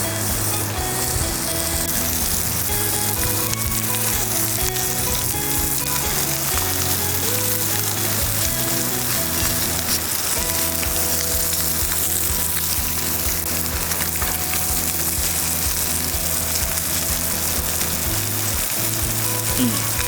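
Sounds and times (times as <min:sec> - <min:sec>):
background music with low beat: 0:00.0 - 0:20.0
steak sizzling in a skillet: 0:00.0 - 0:20.0.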